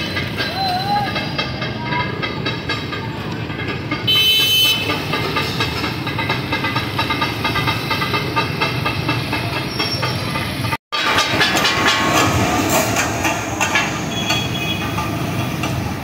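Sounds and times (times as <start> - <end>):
busy street noise: 0.0 - 16.0.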